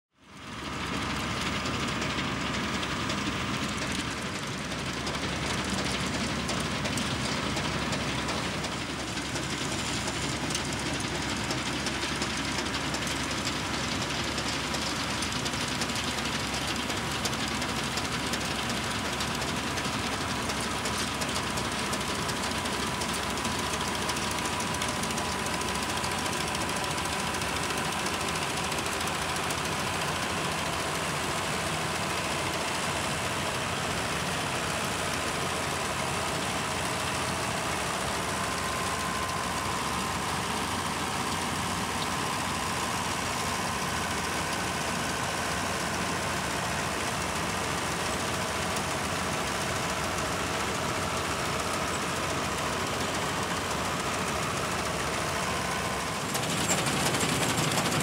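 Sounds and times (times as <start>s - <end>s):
combine harvester clattering: 0.4s - 58.0s.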